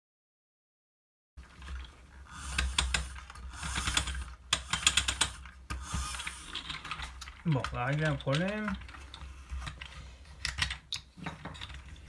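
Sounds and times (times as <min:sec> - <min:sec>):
plastic parts clicking and rattling: 0:01.4 - 0:12.0.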